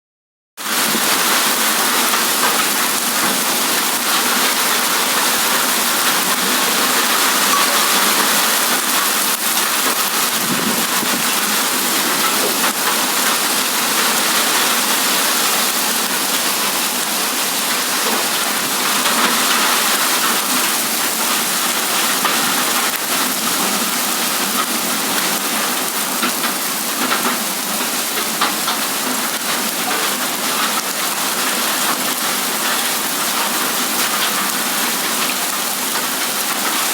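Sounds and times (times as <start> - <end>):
heavy rain in wind: 0.6 - 36.9.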